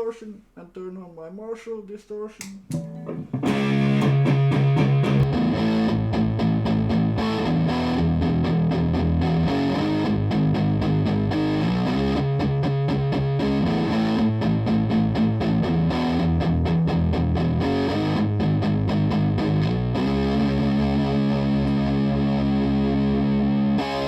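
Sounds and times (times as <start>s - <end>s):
distorted electric guitar riff: 2.6s - 24.0s.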